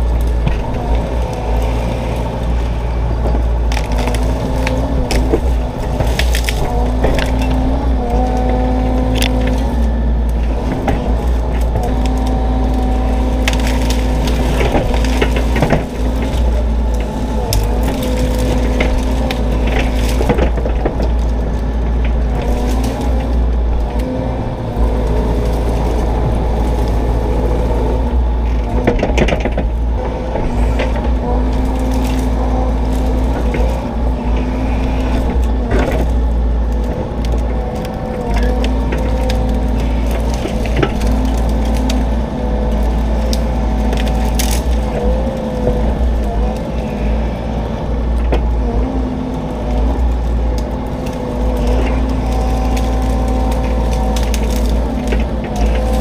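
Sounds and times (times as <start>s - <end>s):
excavator diesel engine: 0.0s - 56.0s
hydraulics working: 0.0s - 56.0s
wood and roots cracking: 0.0s - 56.0s.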